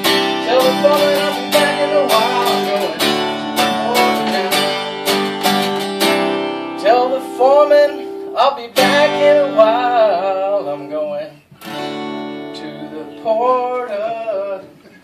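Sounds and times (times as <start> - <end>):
acoustic guitar strumming: 0.0 - 14.9
man singing: 0.0 - 15.0.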